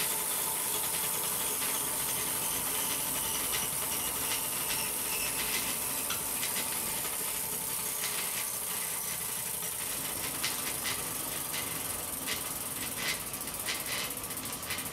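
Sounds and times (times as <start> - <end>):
bicycle wheel spinning hiss: 0.0 - 14.9.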